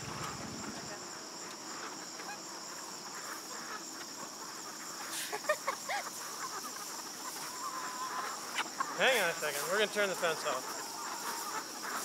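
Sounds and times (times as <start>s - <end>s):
poultry calling: 0.0s - 12.0s.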